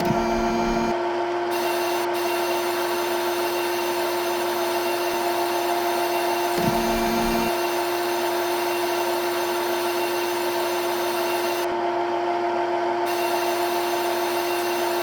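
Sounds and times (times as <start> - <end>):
milling machine spindle tone: 0.0 - 11.7, 13.1 - 15.0.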